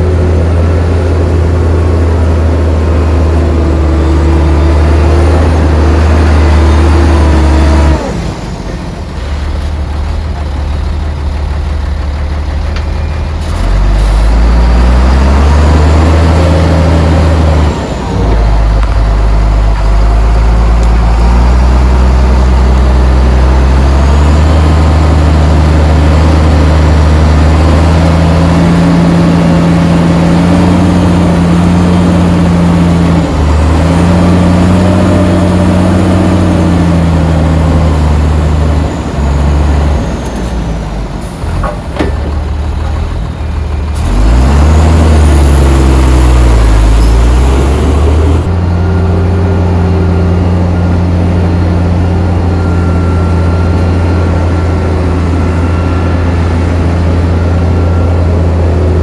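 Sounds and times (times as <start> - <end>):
heavy diesel engine revving: 0.0 - 59.0.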